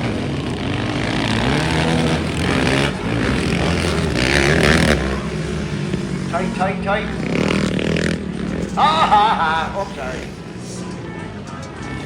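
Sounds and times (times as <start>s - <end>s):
racing engines revving: 0.0s - 12.0s.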